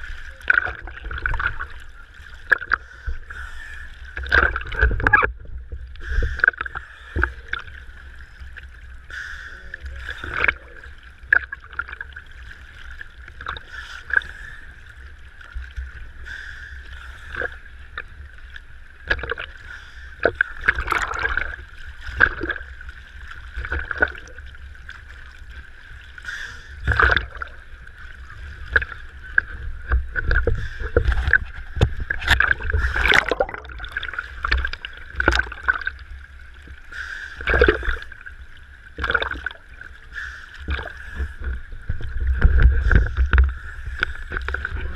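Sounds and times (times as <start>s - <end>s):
low rumble of water: 0.0s - 44.9s
sea water sloshing: 0.0s - 44.9s
waves splashing: 0.0s - 44.9s.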